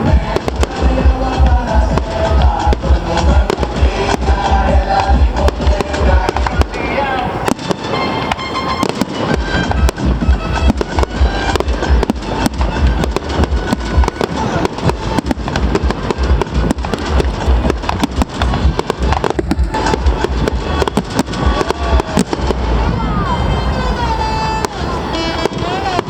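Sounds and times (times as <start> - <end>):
fireworks bangs and crackles: 0.0 - 26.0
music playing: 0.0 - 26.0.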